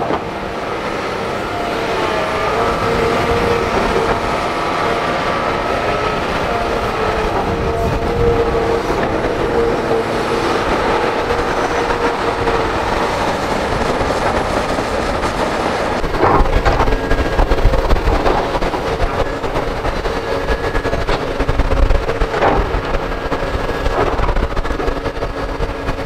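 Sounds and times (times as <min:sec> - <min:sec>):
excavator diesel engines whining: 0:00.0 - 0:26.0.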